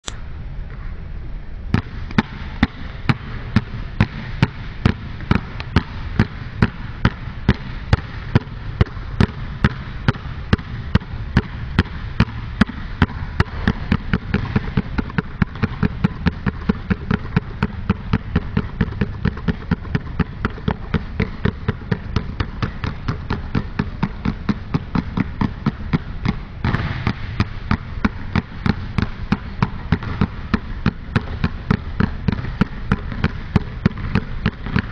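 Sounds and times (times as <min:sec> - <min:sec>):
basketballs bouncing on gym floor: 0:01.7 - 0:34.9.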